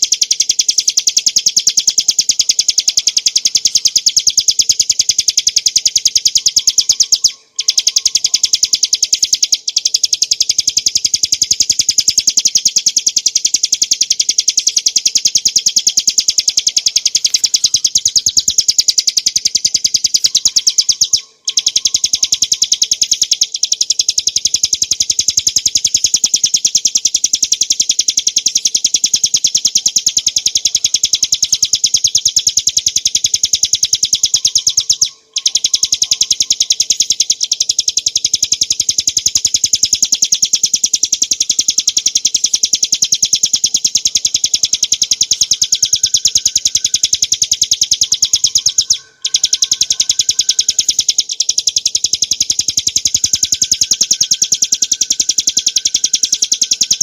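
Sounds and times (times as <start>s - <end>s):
bird rattling trill: 0.0s - 57.0s.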